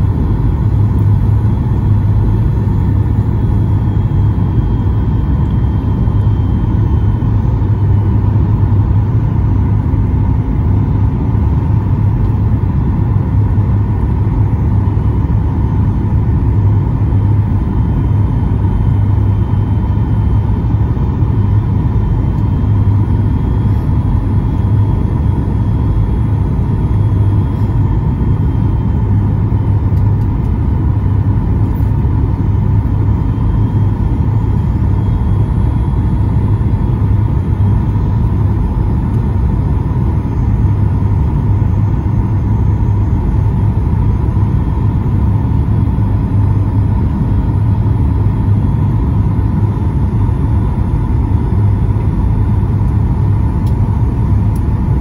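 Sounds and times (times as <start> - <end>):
airplane cabin rumble: 0.0 - 55.0
steady engine whine: 0.0 - 55.0.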